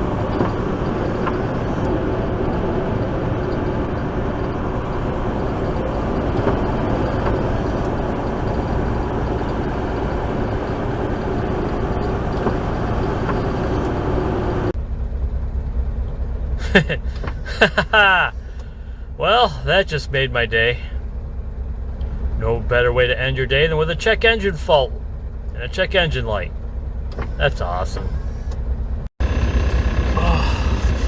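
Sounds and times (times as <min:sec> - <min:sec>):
low hum: 0:00.0 - 0:31.0
road rumble: 0:00.0 - 0:31.0
truck engine drone: 0:00.0 - 0:31.0.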